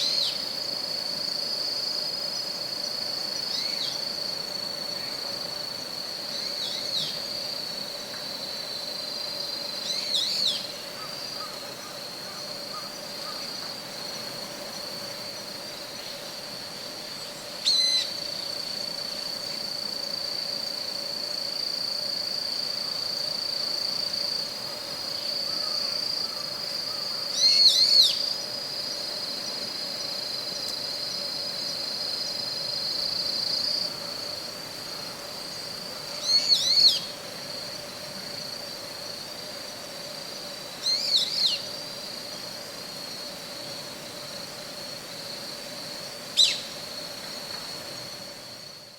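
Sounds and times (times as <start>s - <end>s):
high-pitched insect trill: 0.0s - 48.9s.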